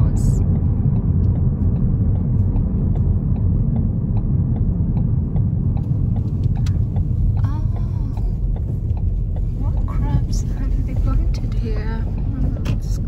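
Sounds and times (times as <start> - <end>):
car road and engine rumble: 0.0 - 13.0
faint regular ticking: 0.2 - 13.0.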